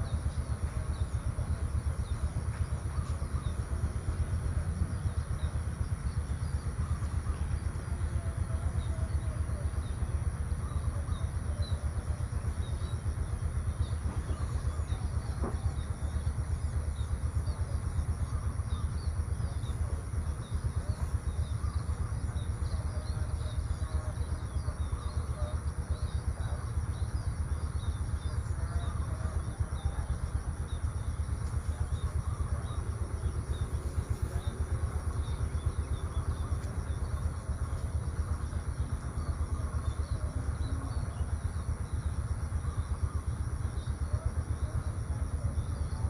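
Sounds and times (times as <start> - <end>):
high insect drone: 0.0 - 46.0
low rumble: 0.0 - 46.0
small birds chirping: 0.0 - 46.0.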